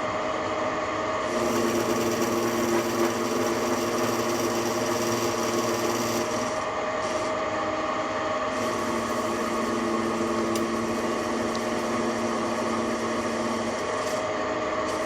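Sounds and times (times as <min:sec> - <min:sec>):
lathe motor hum: 0:00.0 - 0:15.0
cutter scraping metal part: 0:01.3 - 0:07.4, 0:08.5 - 0:15.0.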